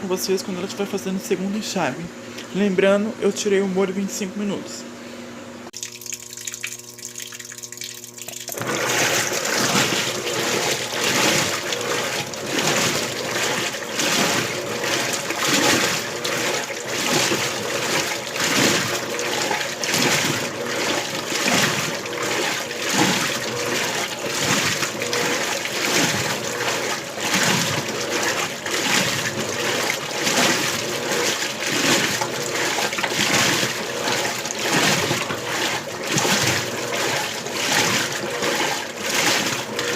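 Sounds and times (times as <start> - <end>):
washing machine hum: 0.0 - 39.9
water sloshing in washing machine: 5.7 - 39.9.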